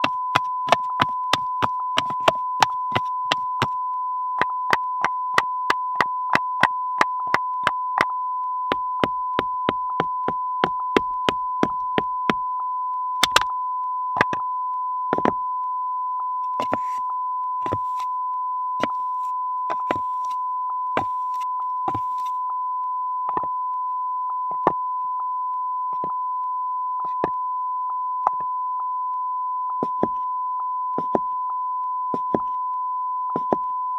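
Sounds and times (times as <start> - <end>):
continuous beep tone: 0.0 - 33.9.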